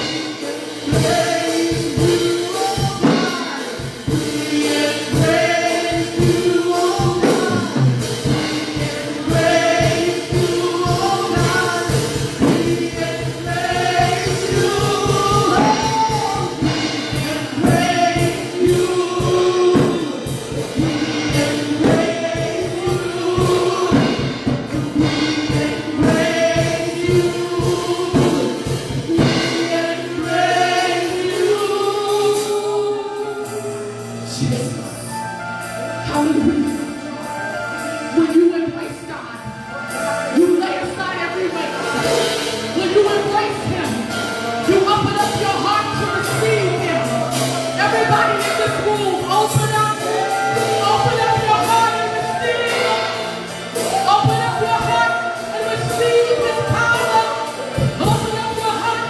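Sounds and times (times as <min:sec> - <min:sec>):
band accompaniment: 0:00.0 - 0:59.0
group singing gospel music: 0:00.0 - 0:59.0
steady drum beat: 0:00.0 - 0:59.0.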